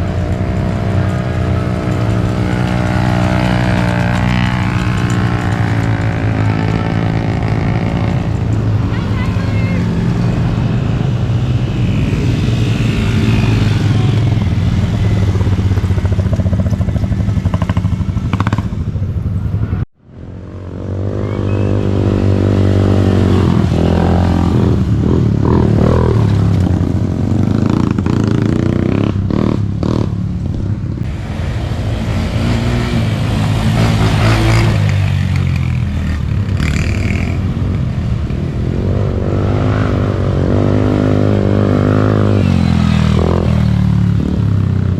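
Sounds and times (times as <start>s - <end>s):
atv engines revving: 0.0s - 44.9s.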